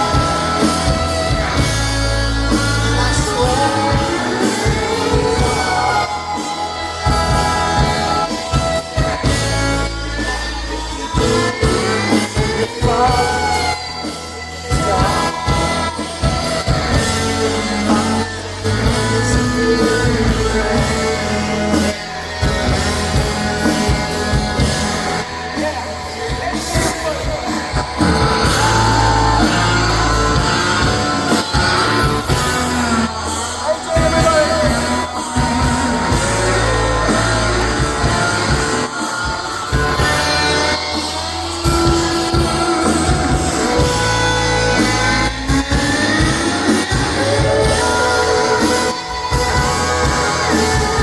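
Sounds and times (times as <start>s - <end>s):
live rock band playing: 0.0s - 51.0s.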